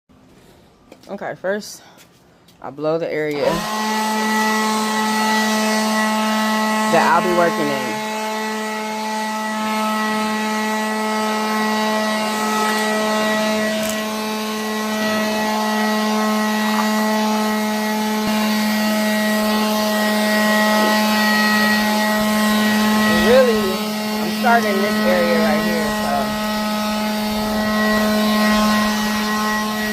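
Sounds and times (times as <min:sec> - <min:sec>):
leaf blower running: 0:03.3 - 0:29.9.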